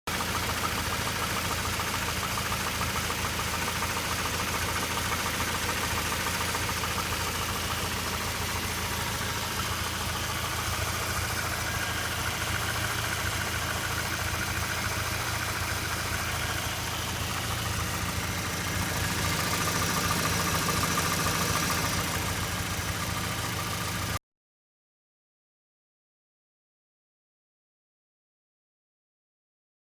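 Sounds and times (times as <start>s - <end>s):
engine running with fast knocking: 0.1s - 24.2s.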